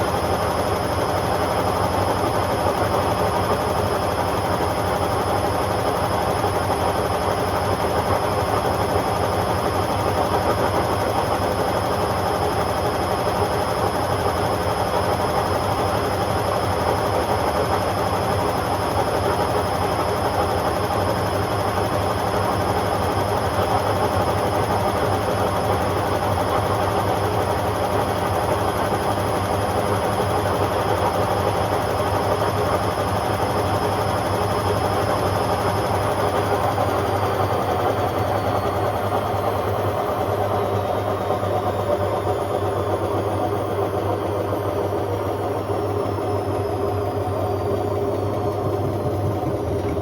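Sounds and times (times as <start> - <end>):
washing machine spinning: 0.0 - 50.0.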